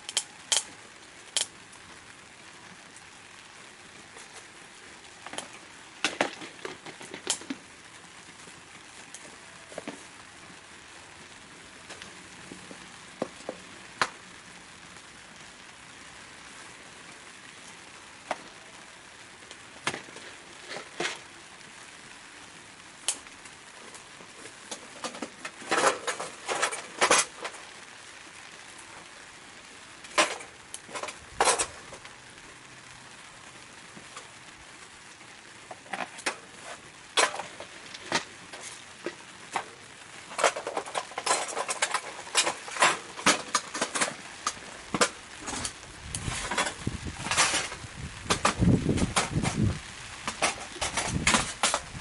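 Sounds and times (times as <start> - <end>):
wood fire hissing and crackling: 0.0 - 52.0.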